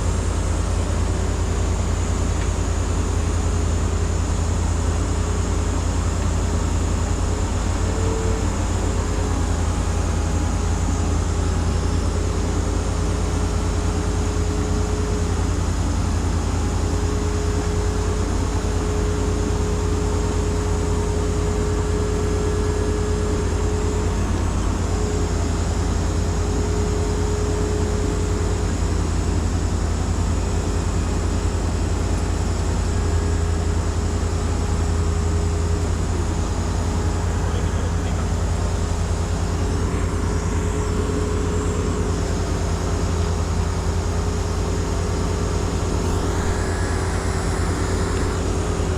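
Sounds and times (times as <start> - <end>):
faint machinery whine: 0.0 - 48.9
heavy engine rumbling: 0.0 - 48.9.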